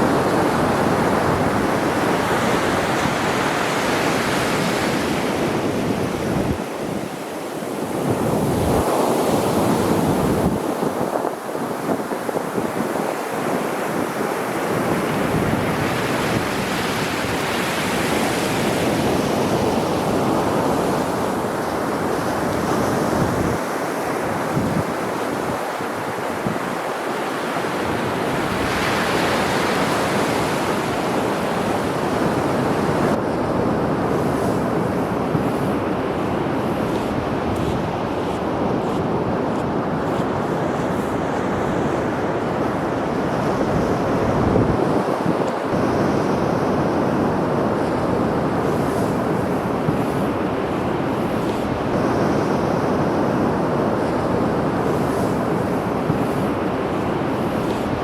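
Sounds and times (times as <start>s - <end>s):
sea waves breaking on shore: 0.0s - 58.0s
wind gusting on microphone: 0.0s - 58.0s.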